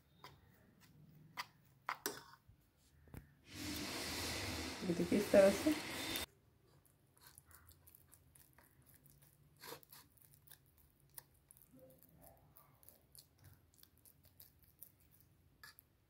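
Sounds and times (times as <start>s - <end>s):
spoon stirring thick batter: 0.0s - 2.9s, 4.9s - 16.0s.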